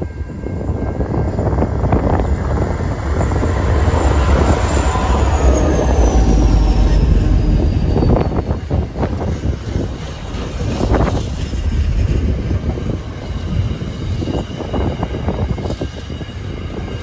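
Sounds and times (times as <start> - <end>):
diesel locomotive engine rumbling: 0.0 - 17.0
locomotive high whine: 0.0 - 17.0.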